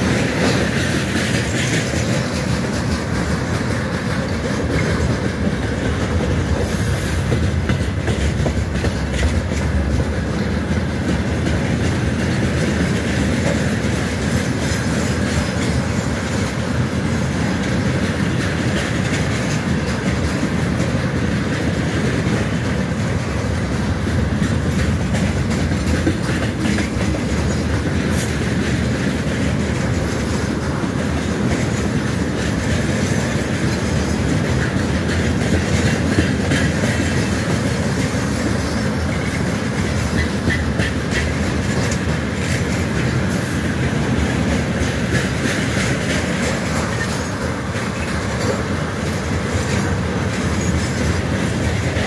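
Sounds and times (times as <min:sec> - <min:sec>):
freight train rumbling: 0:00.0 - 0:52.0
wheels clacking on rail joints: 0:00.0 - 0:52.0.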